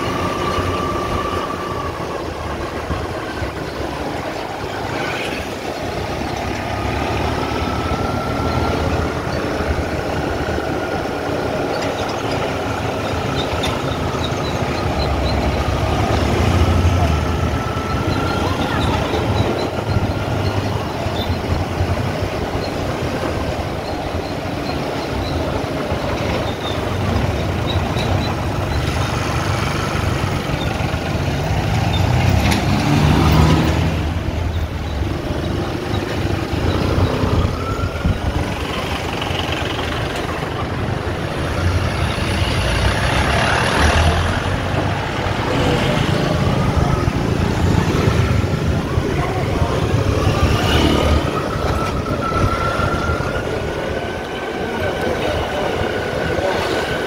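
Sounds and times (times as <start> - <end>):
road noise: 0.0 - 57.0.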